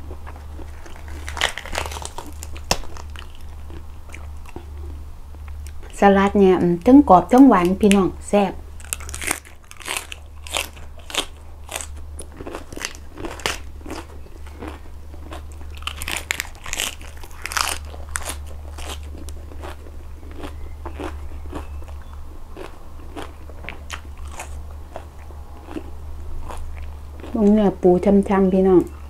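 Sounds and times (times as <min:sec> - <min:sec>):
lettuce crunching being chewed: 0:00.0 - 0:06.0, 0:08.8 - 0:27.7
low hum: 0:00.0 - 0:29.0.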